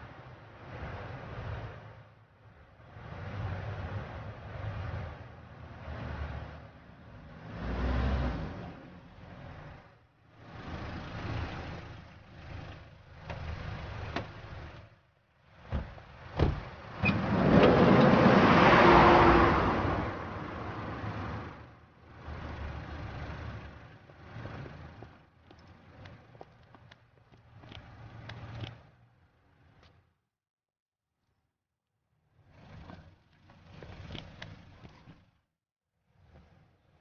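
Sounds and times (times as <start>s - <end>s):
cars passing: 0.0s - 30.0s.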